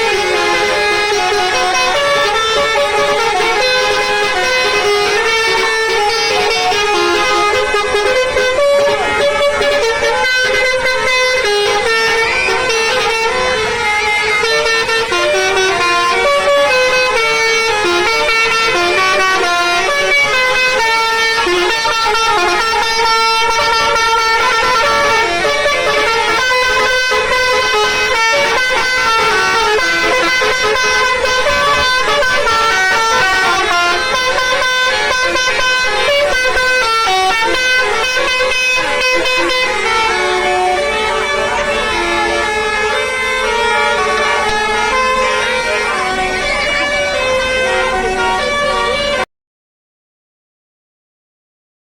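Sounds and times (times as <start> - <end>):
bus air horns playing melodies: 0.0 - 49.3.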